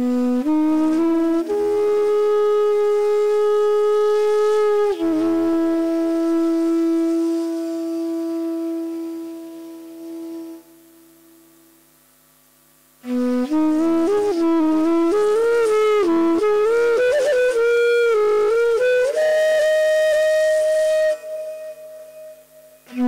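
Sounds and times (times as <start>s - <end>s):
bamboo flute playing long notes: 0.0s - 11.6s, 13.0s - 23.0s.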